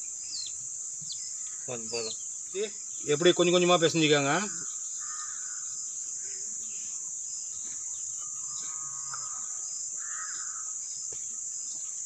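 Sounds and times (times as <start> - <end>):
bird calls: 0.0 - 12.0
faint pulsing chirp: 0.0 - 12.0
high-pitched insect drone: 0.0 - 12.0.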